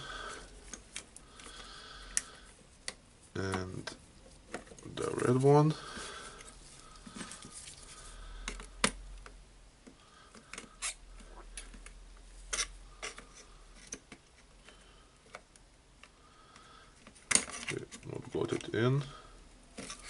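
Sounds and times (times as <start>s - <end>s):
plastic parts and wires rubbing: 0.2s - 16.1s, 16.9s - 19.1s, 19.7s - 20.0s.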